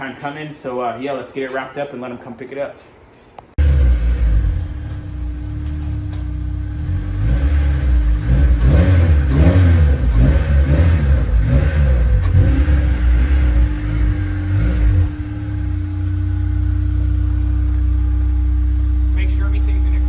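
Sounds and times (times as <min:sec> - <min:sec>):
car engine idling and revving: 0:03.6 - 0:20.0.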